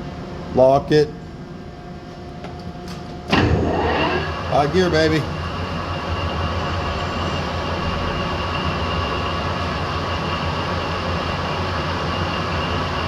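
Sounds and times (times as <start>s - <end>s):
lathe spindle humming: 2.3s - 13.0s.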